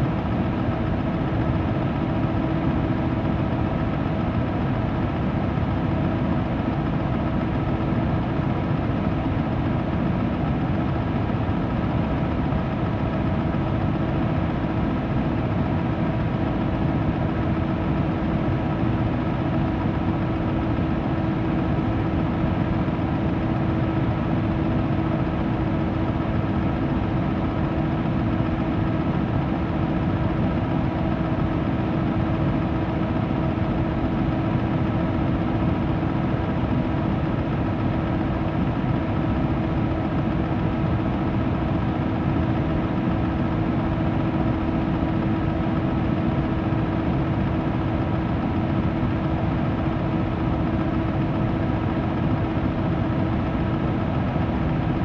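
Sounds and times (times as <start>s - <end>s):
electric fan running: 0.0s - 55.0s.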